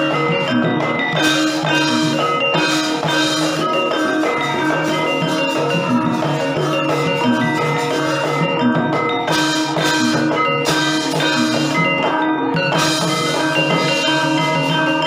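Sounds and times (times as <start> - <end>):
drumming: 0.0 - 15.0
metallophones and gongs playing: 0.0 - 15.0.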